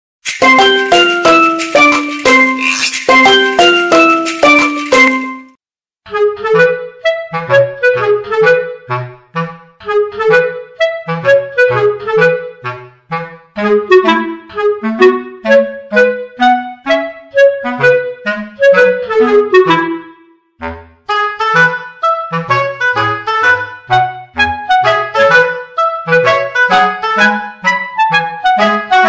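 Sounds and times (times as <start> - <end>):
woodwind melody: 0.2 - 20.4, 21.1 - 29.0.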